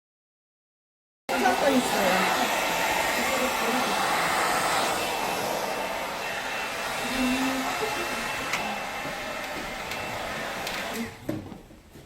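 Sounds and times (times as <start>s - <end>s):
hair dryer running: 1.3s - 11.4s.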